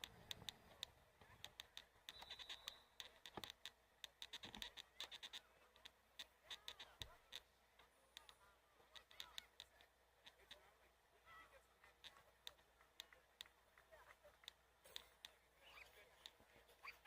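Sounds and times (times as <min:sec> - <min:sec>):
faint clicks and taps: 0:00.0 - 0:10.8, 0:11.7 - 0:17.0.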